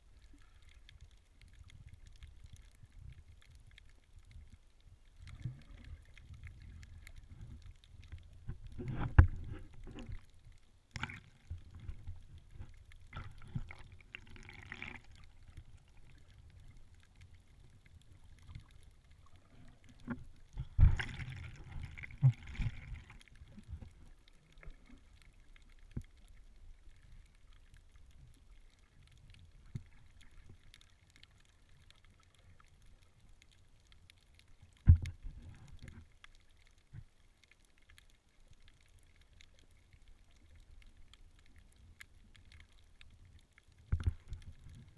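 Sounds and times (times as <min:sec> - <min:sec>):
underwater sloshing rumble: 0:00.0 - 0:37.2.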